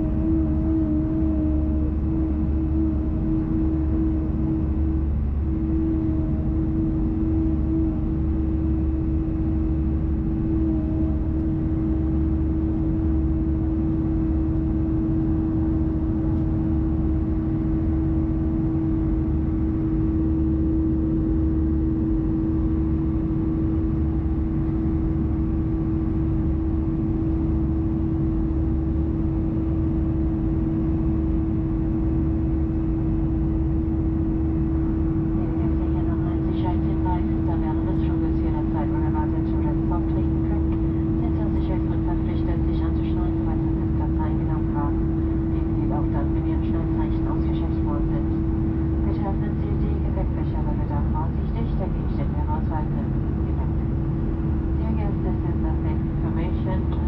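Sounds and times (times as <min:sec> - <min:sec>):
jet engine howl: 0:00.0 - 0:57.0
jet engines low drone: 0:00.0 - 0:57.0.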